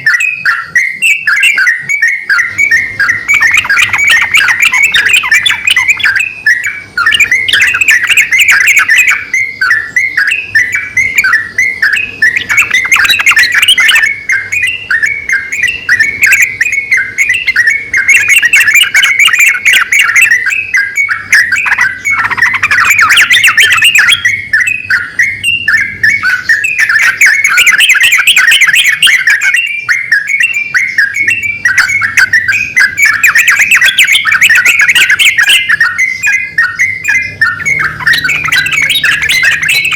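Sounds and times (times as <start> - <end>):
birds calling with quick chirps: 0.0 - 39.9.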